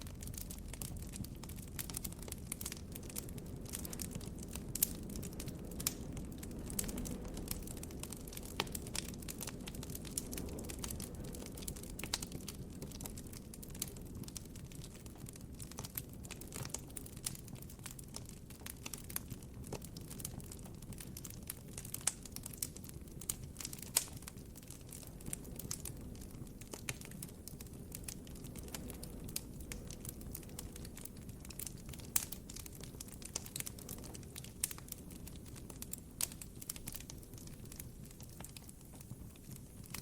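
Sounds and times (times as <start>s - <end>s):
campfire crackling and popping: 0.0s - 40.0s
low hiss of flames: 0.0s - 40.0s.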